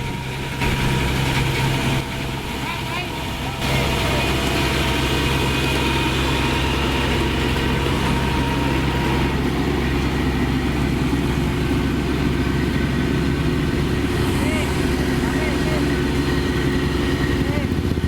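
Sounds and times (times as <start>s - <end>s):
combine harvester diesel engine: 0.0s - 18.0s
high whine: 0.0s - 18.0s.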